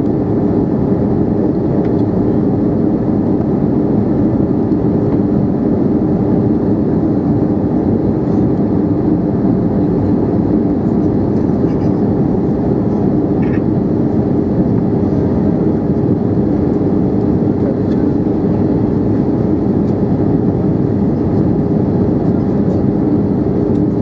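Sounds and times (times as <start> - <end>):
airplane cabin engine noise: 0.0 - 24.0.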